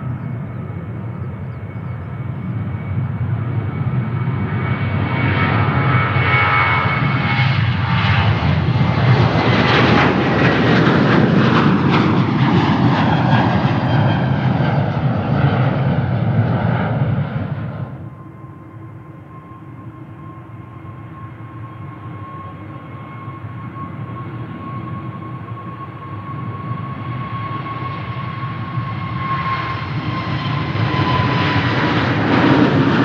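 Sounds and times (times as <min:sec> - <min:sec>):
jet engines roaring with high whine: 0:00.0 - 0:33.0.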